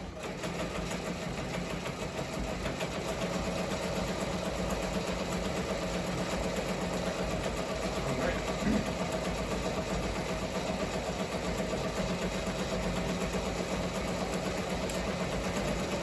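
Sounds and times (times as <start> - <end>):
embroidery machine stitching: 0.0 - 16.0.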